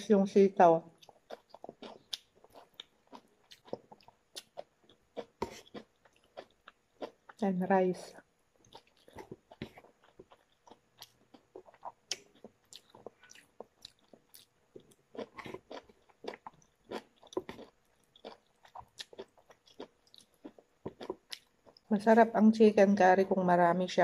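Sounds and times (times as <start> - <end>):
person chewing food: 0.9 - 7.4, 8.2 - 21.9.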